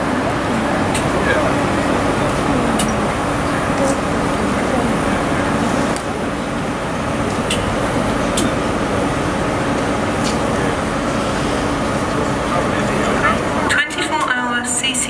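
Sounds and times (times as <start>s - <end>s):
low hum: 0.0s - 13.9s
train rumble and hiss: 0.0s - 15.0s.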